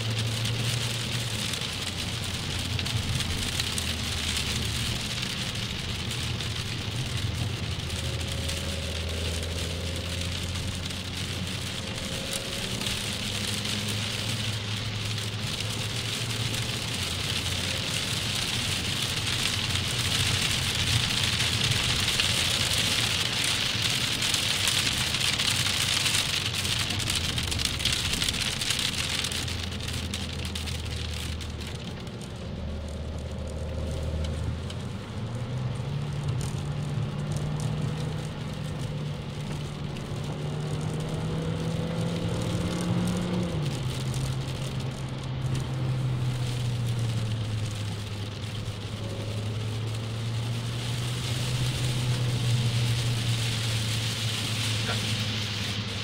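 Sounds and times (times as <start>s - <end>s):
car engine running: 0.0s - 56.0s
heavy rain on car roof: 0.0s - 56.0s.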